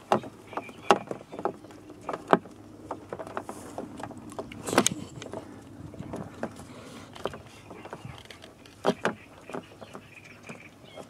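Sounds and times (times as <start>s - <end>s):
turtles scrabbling in mud: 0.0s - 11.0s.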